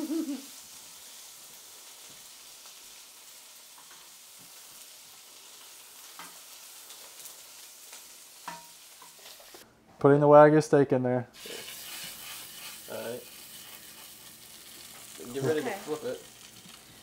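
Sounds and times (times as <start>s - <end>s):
steak sizzling in a pan: 0.0s - 9.6s, 11.4s - 17.0s.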